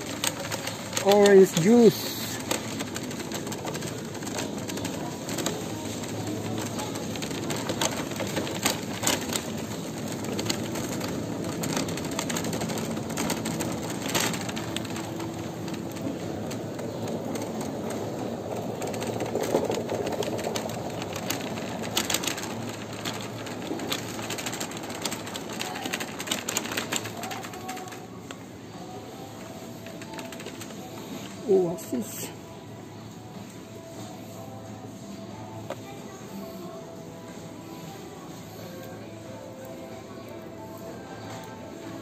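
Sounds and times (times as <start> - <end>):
shopping trolley rolling on tiles: 0.0 - 42.0.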